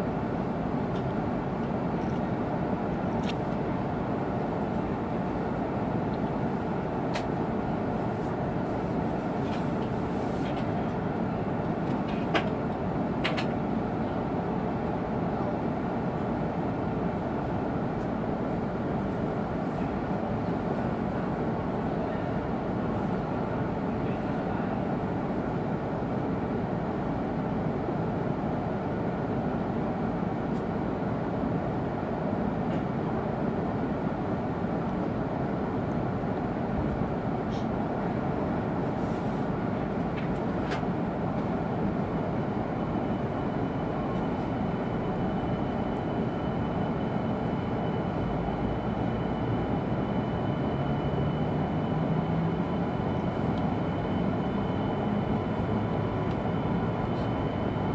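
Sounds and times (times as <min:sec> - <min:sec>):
train wheel and air noise: 0:00.0 - 0:57.9.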